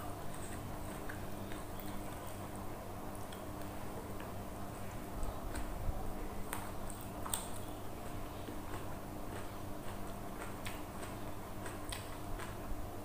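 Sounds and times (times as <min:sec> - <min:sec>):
chewing with mouth clicks: 0:00.0 - 0:12.8
steady low hum: 0:00.0 - 0:13.0.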